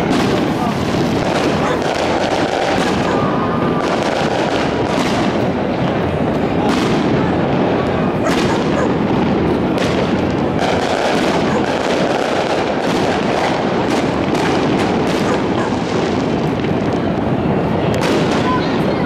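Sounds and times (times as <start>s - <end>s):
distant fireworks rumble: 0.0s - 19.0s
fireworks bangs and crackles: 0.0s - 19.0s.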